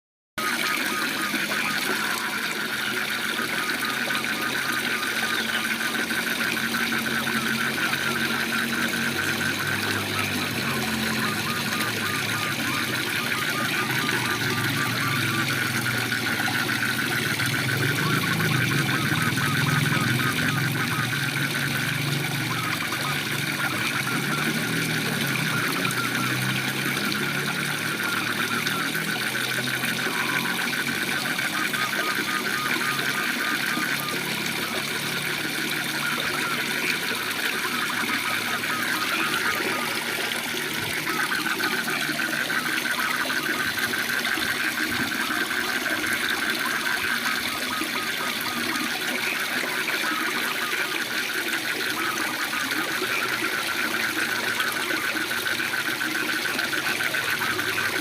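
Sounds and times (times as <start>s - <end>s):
frog calling: 0.4s - 58.0s.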